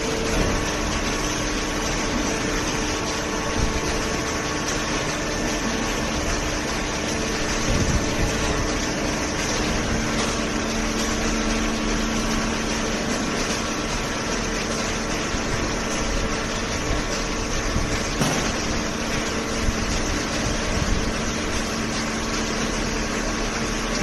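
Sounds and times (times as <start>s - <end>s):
hydraulic pump humming: 0.0s - 24.0s
low machine tone: 0.0s - 24.0s.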